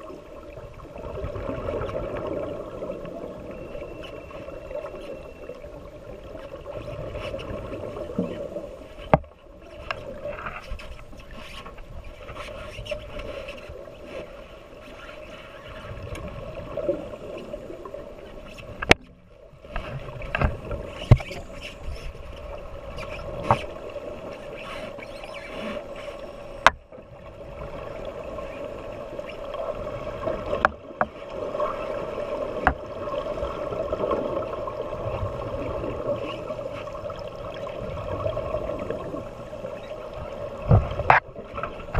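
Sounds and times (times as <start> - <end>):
underwater boat machinery hum: 0.0 - 41.9.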